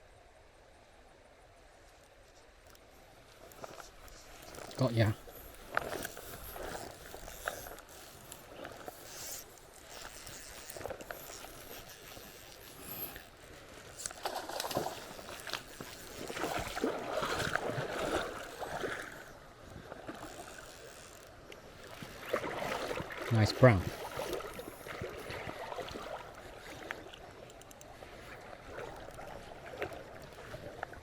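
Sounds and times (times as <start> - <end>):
creek water splashing: 2.0 - 31.0.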